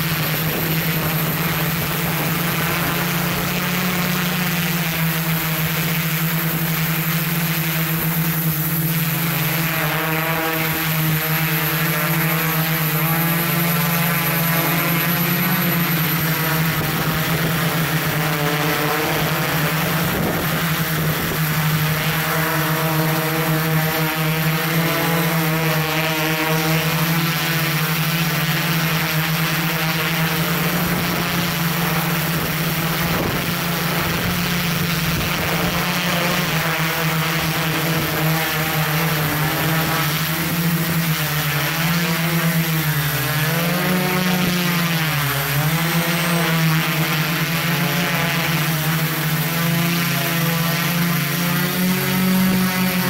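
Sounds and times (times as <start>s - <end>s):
drone motors buzzing: 0.0s - 53.0s.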